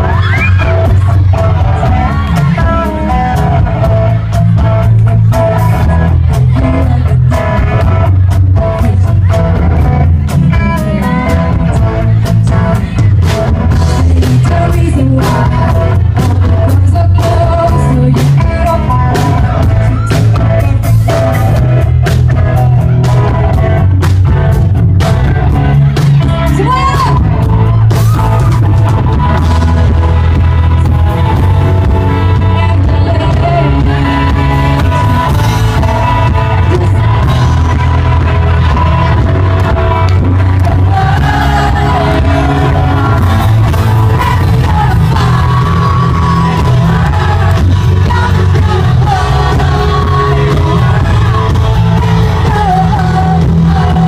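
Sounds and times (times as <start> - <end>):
person singing: 0.0 - 23.8, 25.2 - 54.0
bass guitar: 0.0 - 54.0
drum kit: 0.0 - 54.0
electric guitars: 0.0 - 54.0.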